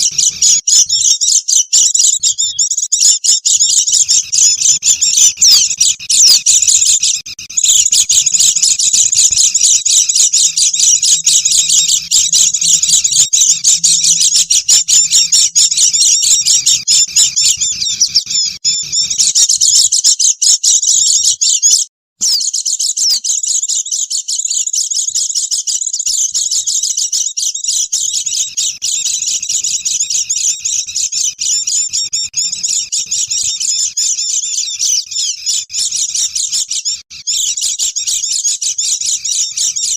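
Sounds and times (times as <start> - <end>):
birds chirping high-pitched: 0.0 - 39.9.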